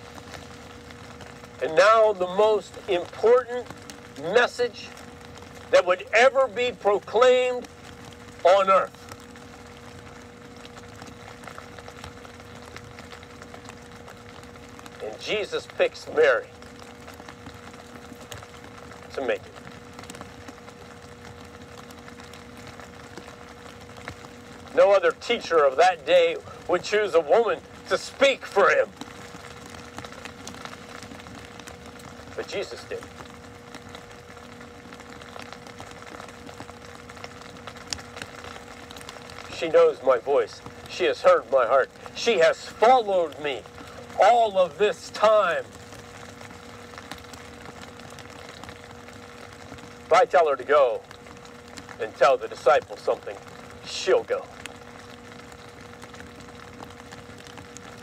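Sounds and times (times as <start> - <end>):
faint constant hum: 0.0 - 58.0.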